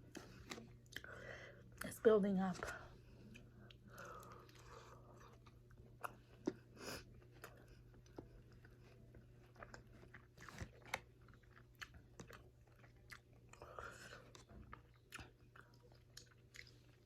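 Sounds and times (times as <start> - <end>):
wet chewing and mouth smacks: 3.1 - 17.0.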